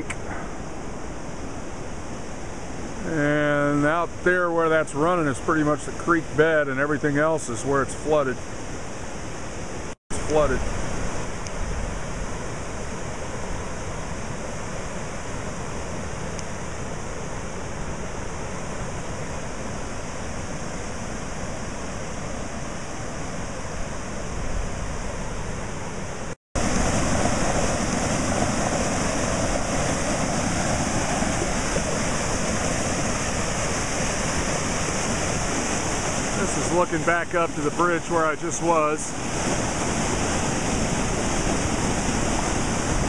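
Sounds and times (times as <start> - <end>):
floodwater rushing: 0.0 - 43.0.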